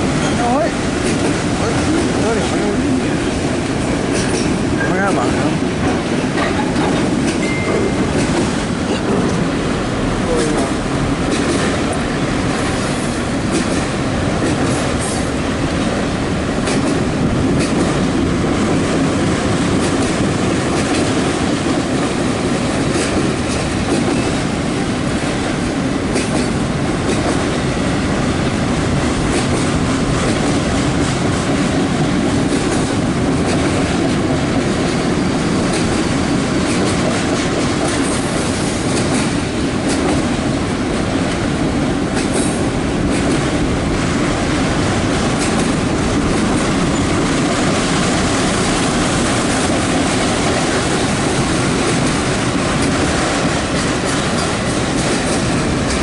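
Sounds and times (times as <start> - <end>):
train clicks and clacks: 0.0 - 56.0
train wheels rumbling on rail: 0.0 - 56.0.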